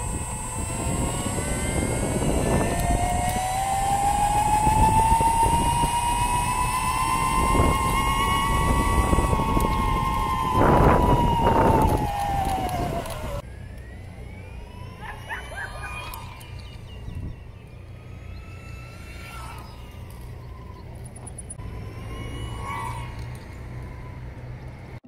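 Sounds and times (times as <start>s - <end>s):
electric motor whining: 0.0s - 25.0s
steady low hum: 0.0s - 25.0s
wind and wheel noise: 0.0s - 25.0s.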